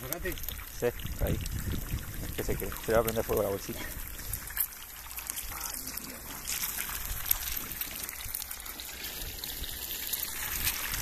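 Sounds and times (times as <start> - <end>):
eggs sizzling in a pan: 0.0 - 11.0.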